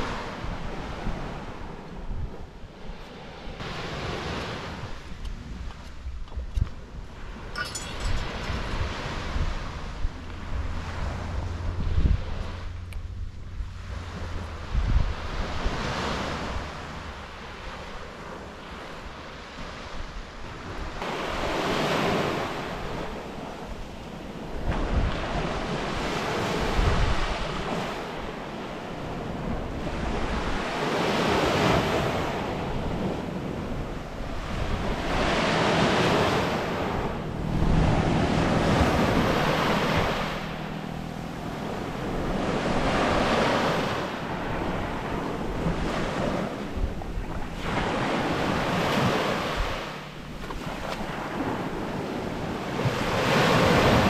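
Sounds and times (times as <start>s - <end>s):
ocean waves breaking: 0.0s - 54.0s
wind buffeting microphone: 0.0s - 54.0s.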